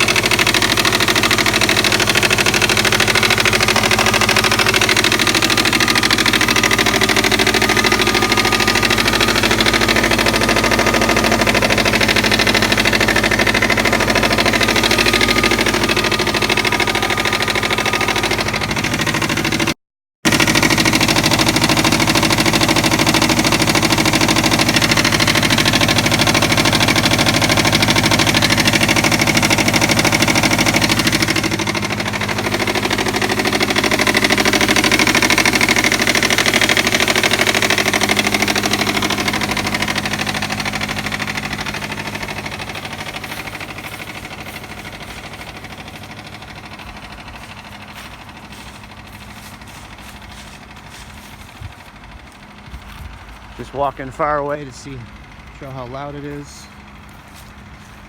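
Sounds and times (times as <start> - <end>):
car engine idling: 0.0 - 58.0
rapid clacking of timing belt: 0.0 - 58.0.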